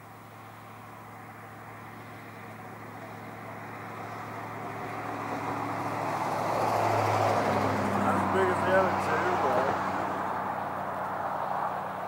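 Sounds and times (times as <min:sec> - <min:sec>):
car engine idling: 0:00.0 - 0:06.6, 0:07.6 - 0:11.2.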